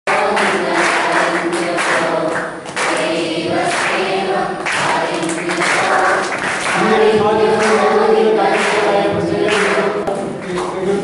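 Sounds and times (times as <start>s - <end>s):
group of people singing: 0.1s - 11.0s.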